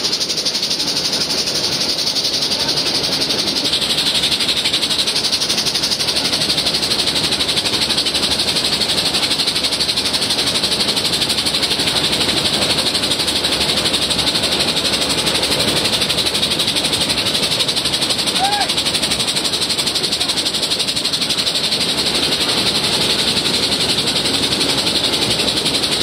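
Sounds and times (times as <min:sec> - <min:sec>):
train hissing and rumbling: 0:00.0 - 0:26.0.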